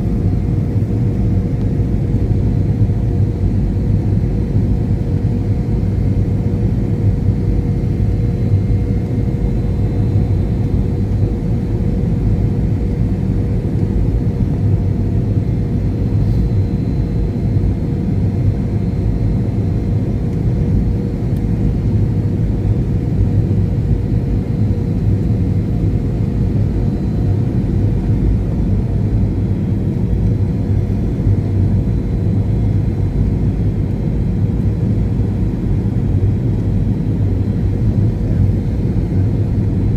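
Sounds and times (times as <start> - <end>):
airplane rumble: 0.0 - 39.9
constant hum: 0.0 - 39.9.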